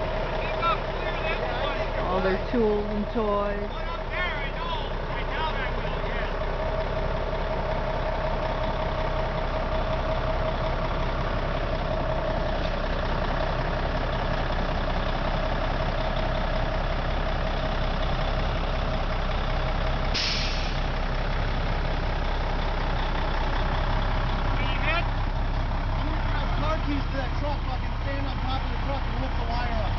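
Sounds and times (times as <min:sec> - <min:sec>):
diesel truck engine running: 0:00.0 - 0:29.9.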